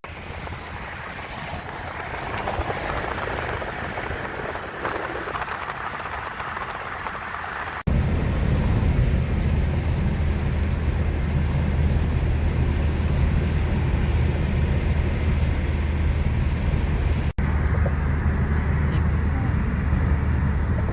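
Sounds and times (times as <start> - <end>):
car engine and tyre rumble: 0.0 - 20.9.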